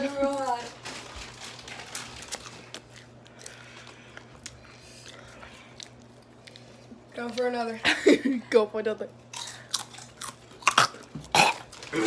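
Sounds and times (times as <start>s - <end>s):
faint steady hum: 0.0s - 12.0s
person chewing crunchy chips: 0.1s - 7.4s, 9.3s - 12.0s.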